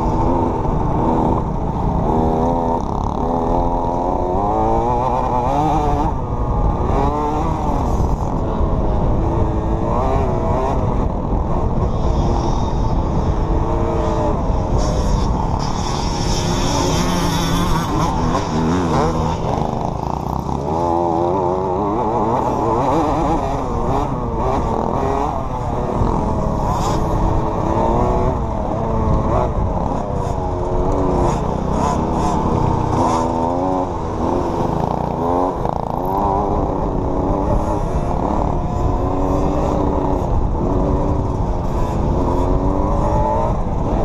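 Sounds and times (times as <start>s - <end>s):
dirt bike engine revving: 0.0s - 44.0s
wind rumble on camera: 0.0s - 44.0s.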